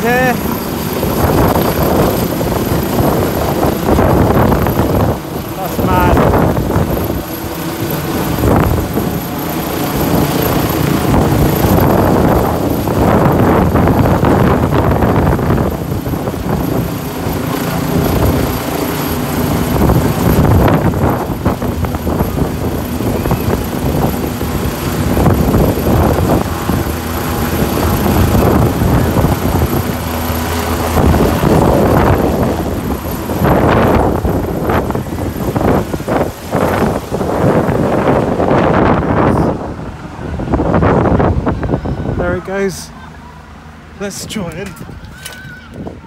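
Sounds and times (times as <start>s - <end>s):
helicopter flying overhead: 0.0s - 46.0s.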